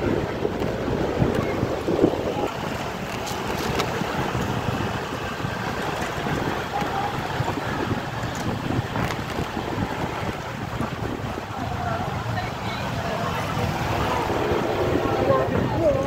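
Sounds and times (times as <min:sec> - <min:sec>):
motorcycle engine running: 0:00.0 - 0:16.0
surrounding traffic: 0:00.0 - 0:16.0
wind rushing over microphone: 0:00.0 - 0:16.0.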